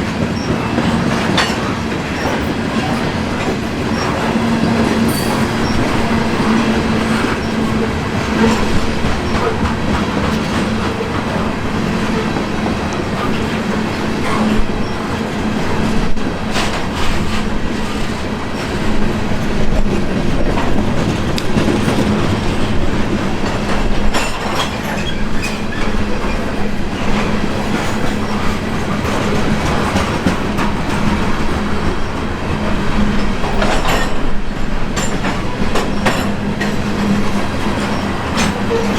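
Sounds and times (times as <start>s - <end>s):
freight train rumbling past: 0.0s - 38.9s
wheels clicking over rail joints: 0.2s - 38.9s.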